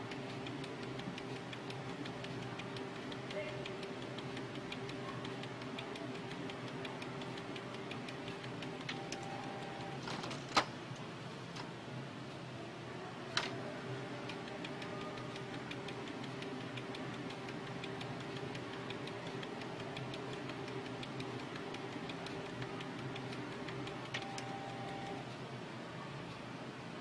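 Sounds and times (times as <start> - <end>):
printer humming and ticking: 0.0 - 10.1, 13.4 - 25.4.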